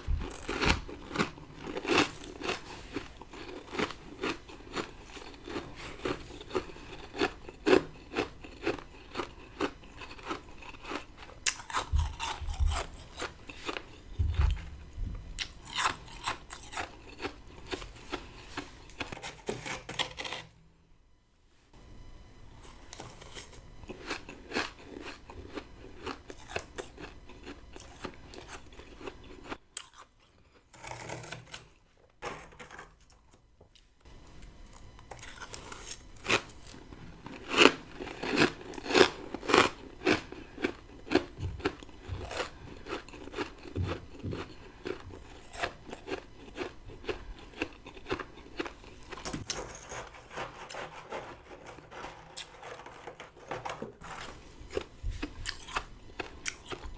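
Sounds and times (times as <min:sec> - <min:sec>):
frost crunching as it is chewed: 0:00.0 - 0:14.7, 0:15.4 - 0:20.5, 0:22.6 - 0:31.7, 0:33.8 - 0:49.6, 0:54.0 - 0:56.9.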